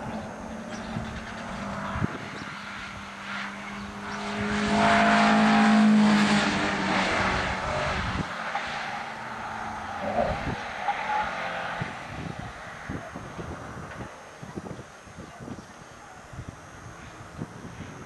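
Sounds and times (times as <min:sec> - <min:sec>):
car engine passing at speed: 0:00.0 - 0:15.1.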